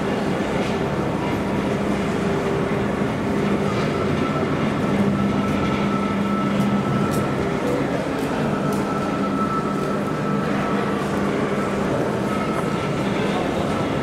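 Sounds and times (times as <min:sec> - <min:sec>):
locomotive engine droning: 0:00.0 - 0:14.0
thin high whine: 0:00.0 - 0:14.0.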